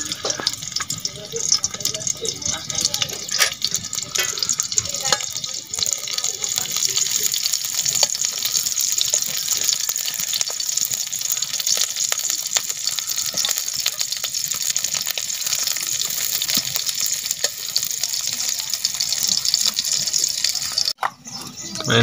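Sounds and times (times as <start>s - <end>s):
oil crackling: 0.0s - 21.0s
onions sizzling in hot oil: 0.0s - 22.0s.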